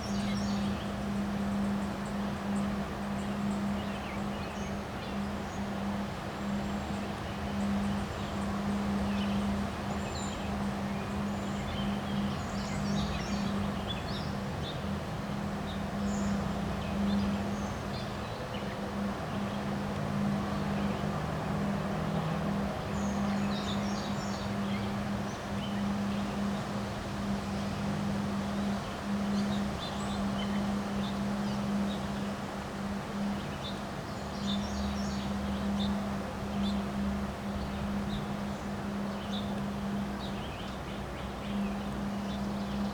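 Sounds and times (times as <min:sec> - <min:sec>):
steady low hum: 0:00.0 - 0:42.9
wind blowing and rustling: 0:00.0 - 0:42.9.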